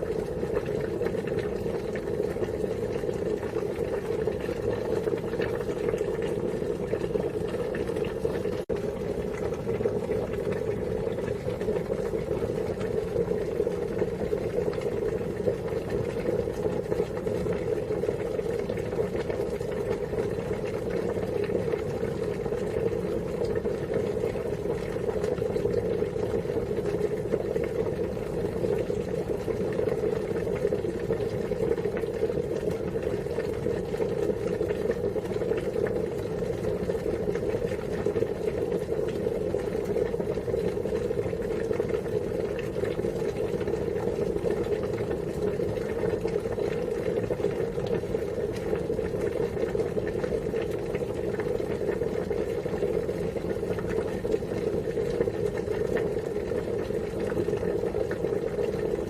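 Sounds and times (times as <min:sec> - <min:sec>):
water boiling: 0:00.0 - 0:59.0.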